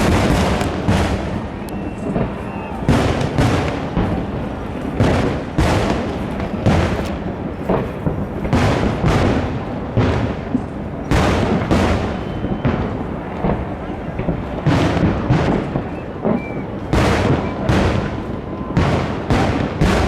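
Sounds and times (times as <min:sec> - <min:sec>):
firework shells booming: 0:00.0 - 0:20.0.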